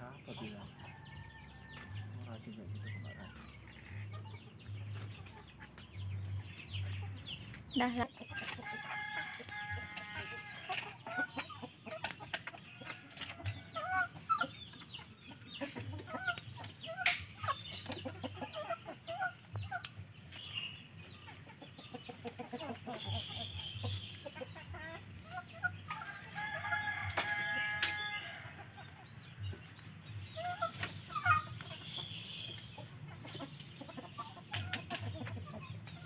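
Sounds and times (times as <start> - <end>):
chickens clucking: 0.0 - 36.0.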